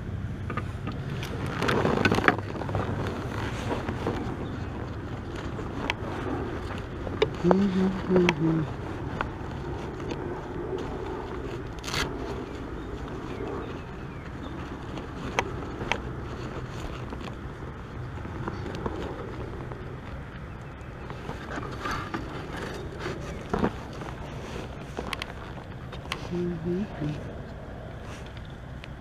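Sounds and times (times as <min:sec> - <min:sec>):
low background rumble: 0:00.0 - 0:29.0
gear clicking on plastic kayak: 0:00.4 - 0:26.4.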